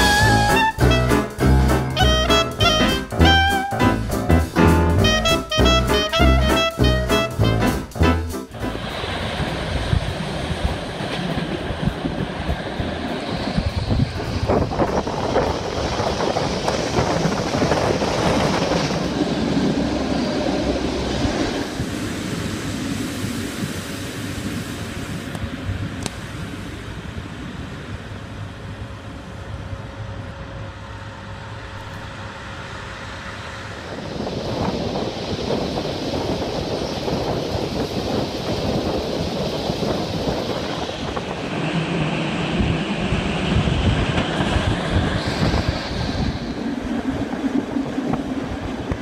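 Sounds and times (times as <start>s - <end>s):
train wheels rumbling: 0.0s - 23.4s, 26.7s - 49.0s.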